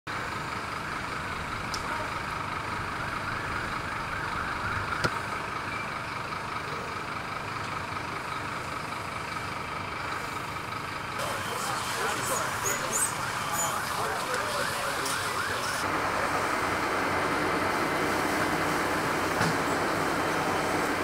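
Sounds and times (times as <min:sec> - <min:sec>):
fire engines running: 0:00.0 - 0:21.0.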